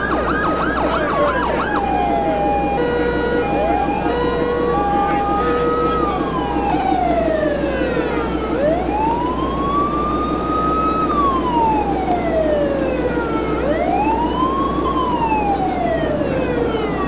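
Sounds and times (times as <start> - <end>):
boat siren wailing: 0.0 - 17.0
steady rumble: 0.0 - 17.0.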